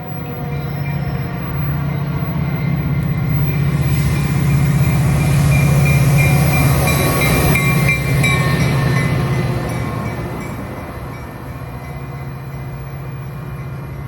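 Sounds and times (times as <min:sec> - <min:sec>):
train passing close by: 0:00.0 - 0:14.0.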